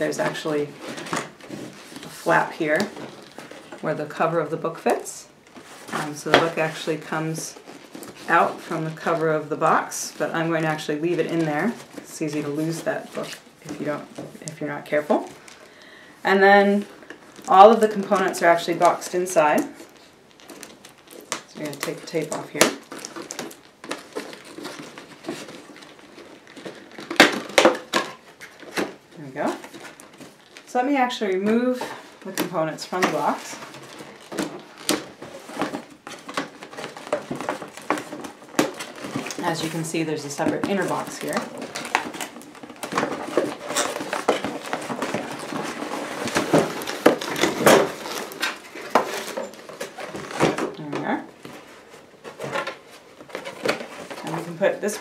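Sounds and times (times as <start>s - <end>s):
cardboard rustling: 0.0s - 55.0s.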